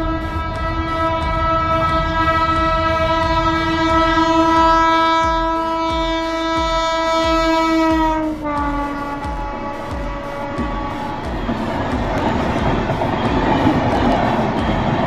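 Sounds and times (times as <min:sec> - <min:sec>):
locomotive horn blast: 0:00.0 - 0:15.0.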